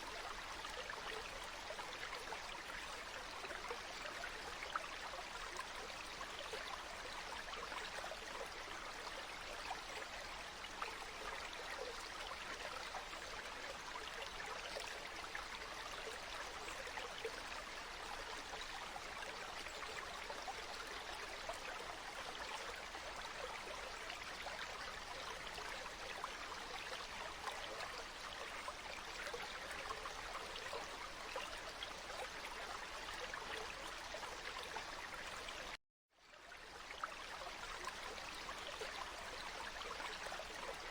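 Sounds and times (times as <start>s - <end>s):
water flowing and babbling: 0.0s - 40.9s.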